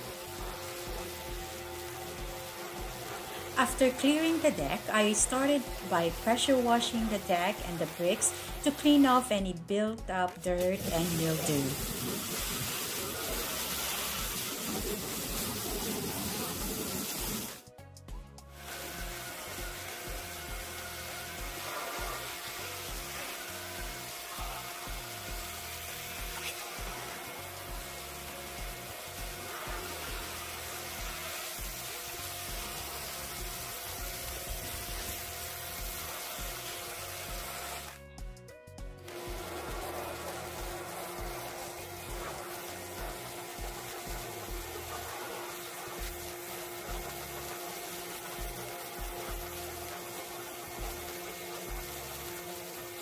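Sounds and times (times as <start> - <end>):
pressure washer spray hissing: 0.0 - 9.3, 10.6 - 17.7, 18.5 - 38.0, 39.1 - 53.0
background music with steady beat: 0.0 - 53.0.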